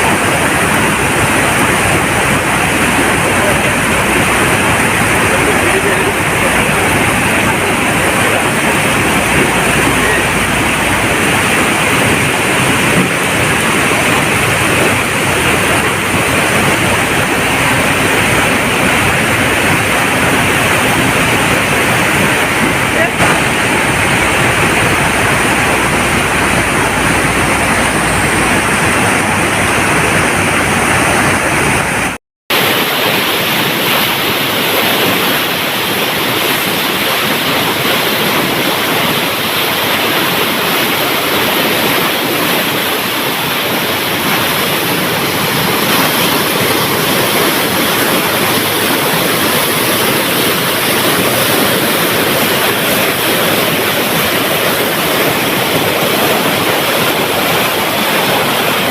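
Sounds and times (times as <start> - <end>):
water rushing through dam: 0.0 - 58.9.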